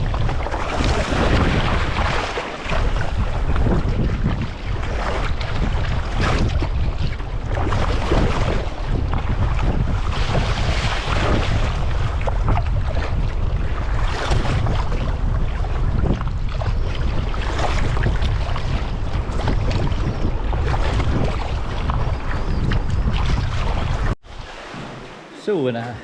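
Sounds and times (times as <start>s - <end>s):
wind buffeting microphone: 0.0s - 25.2s
waves splashing against kayak: 0.0s - 26.0s.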